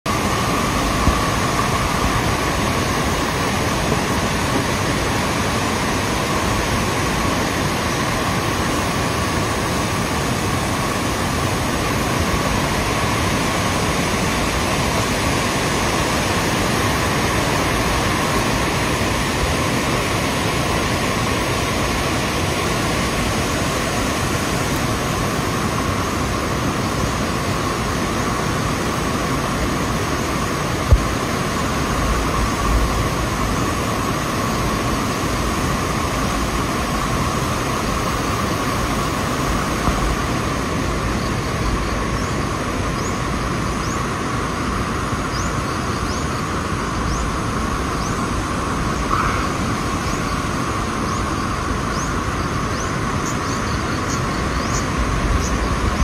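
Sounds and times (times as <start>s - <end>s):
stream rushing over boulders: 0.1s - 56.0s.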